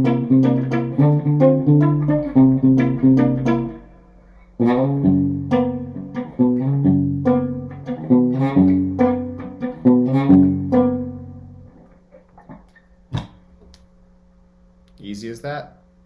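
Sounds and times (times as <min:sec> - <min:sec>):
muted electric guitar riff: 0:00.0 - 0:13.4.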